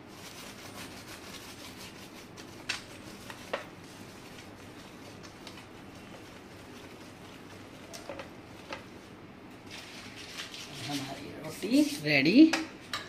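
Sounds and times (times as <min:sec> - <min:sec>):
butter rubbed over roti: 0:00.0 - 0:12.1.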